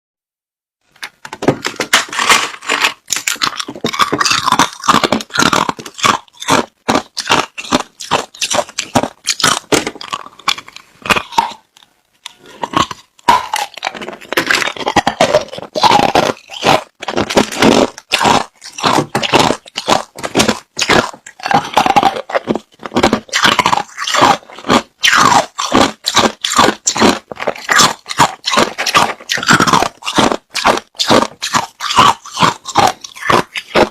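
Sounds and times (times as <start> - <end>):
chewing crushed ice: 1.4 - 33.9.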